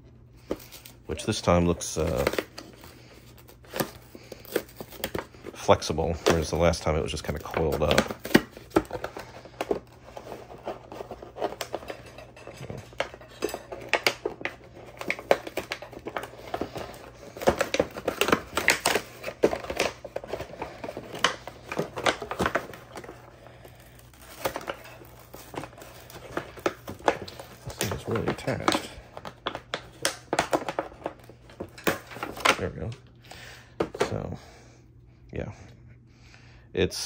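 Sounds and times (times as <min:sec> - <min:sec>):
plastic packaging crinkling: 0:00.4 - 0:34.2.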